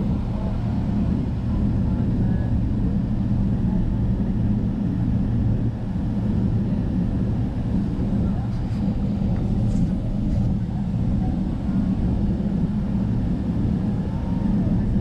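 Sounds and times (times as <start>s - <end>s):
airplane cabin drone: 0.0s - 15.0s.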